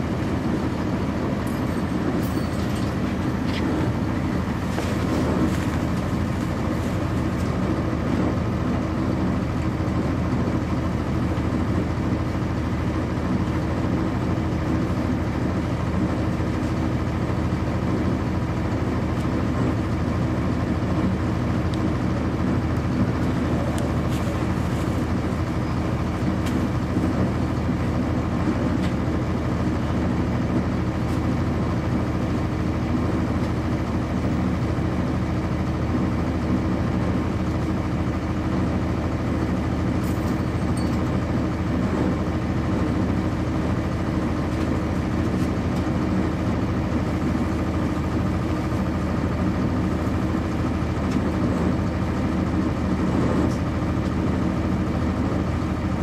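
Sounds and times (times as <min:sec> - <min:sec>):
diesel bus engine droning: 0:00.0 - 0:56.0.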